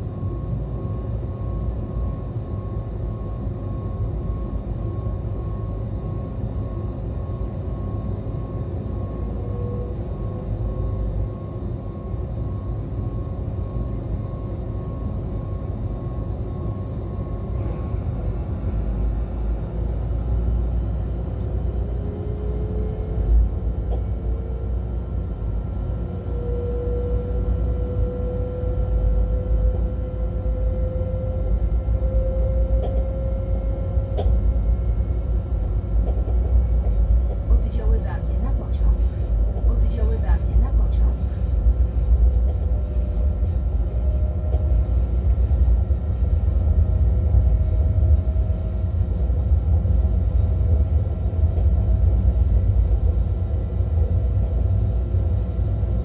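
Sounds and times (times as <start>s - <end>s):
faint pulsing high tone: 0.0s - 19.5s, 21.5s - 35.8s, 36.5s - 56.0s
electric locomotive low rumble: 0.0s - 56.0s.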